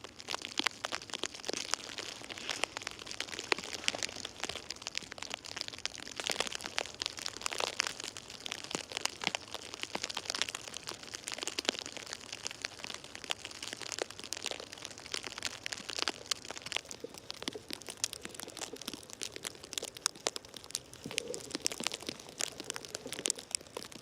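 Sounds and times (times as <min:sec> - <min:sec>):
snow crackling and crunching: 0:00.0 - 0:24.0.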